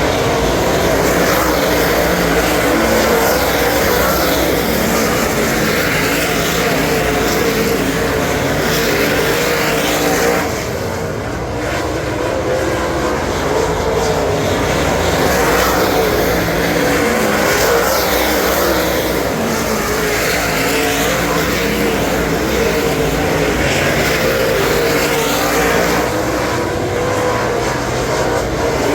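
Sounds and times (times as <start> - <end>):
race car engine running hard: 0.0 - 28.9.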